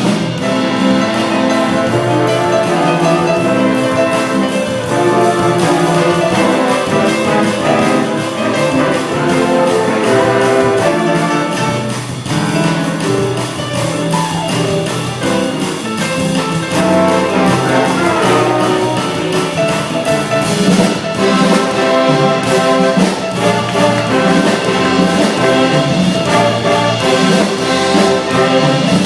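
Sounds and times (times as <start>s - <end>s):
trumpets and trombones: 0.0s - 12.9s, 16.7s - 29.0s
big band playing: 0.0s - 29.0s.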